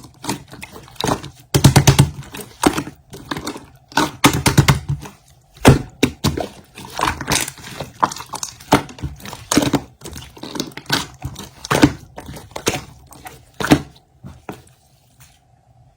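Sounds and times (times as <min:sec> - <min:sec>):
crinkling and rustling: 0:00.0 - 0:15.6.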